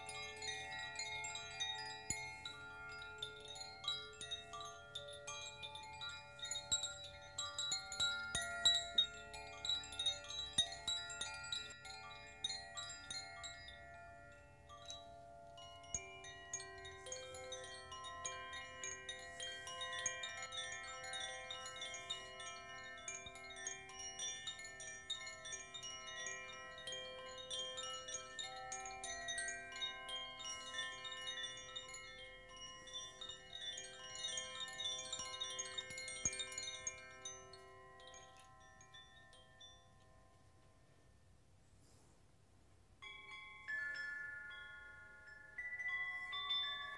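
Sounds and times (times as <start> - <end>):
metallic chimes ringing: 0.0 - 41.1, 43.0 - 46.9.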